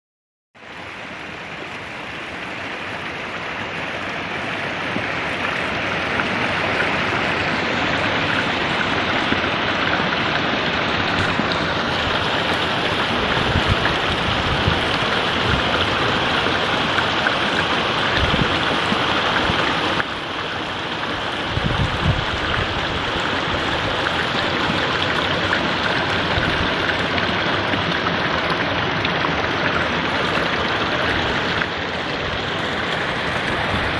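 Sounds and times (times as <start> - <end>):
flowing water rushing: 0.6 - 33.9.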